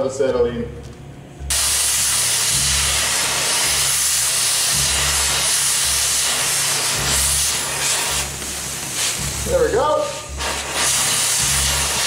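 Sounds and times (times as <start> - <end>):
cutting torch hissing: 1.5 - 12.0.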